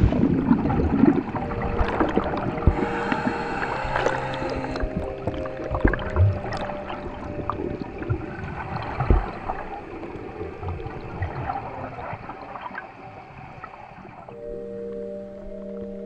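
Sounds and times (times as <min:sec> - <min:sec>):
sea water sloshing and bubbling: 0:00.0 - 0:15.7.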